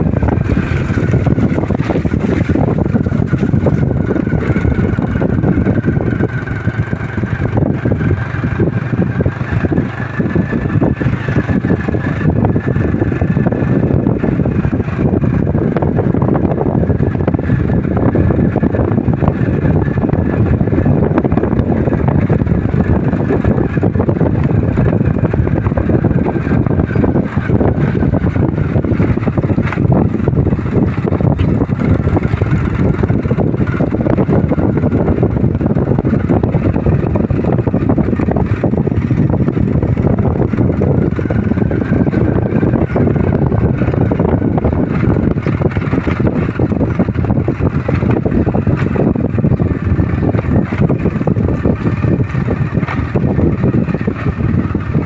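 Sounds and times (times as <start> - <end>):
vehicle engine running: 0.0 - 55.0
wind rumble on microphone: 0.0 - 55.0.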